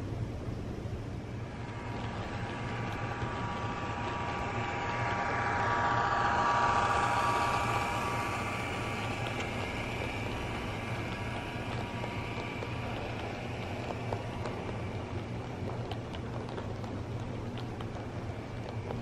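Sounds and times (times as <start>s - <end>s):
model train running on track: 0.7s - 19.0s.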